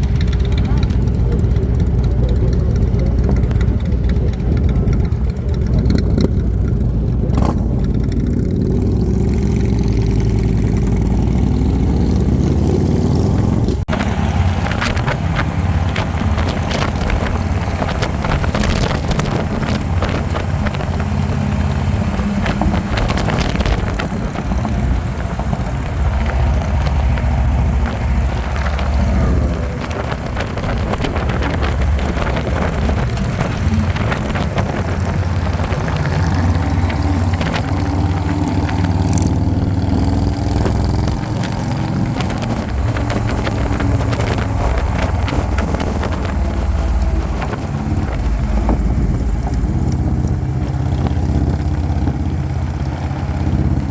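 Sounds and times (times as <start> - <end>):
motorcycle engine rumble: 0.0 - 53.9
wind rush over microphone: 0.0 - 53.9.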